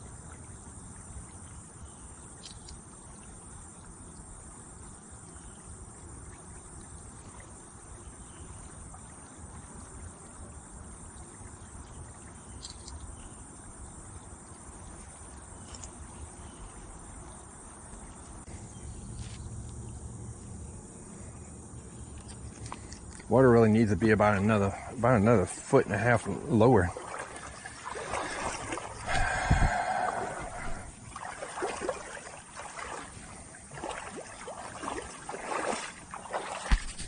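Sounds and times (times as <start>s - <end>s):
creek water running: 0.0s - 37.0s
insects chorus: 0.0s - 37.0s.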